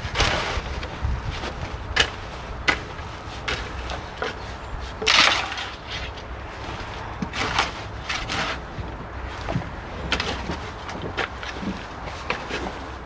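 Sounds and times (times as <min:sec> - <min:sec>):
scraping rustle: 0:00.0 - 0:13.0.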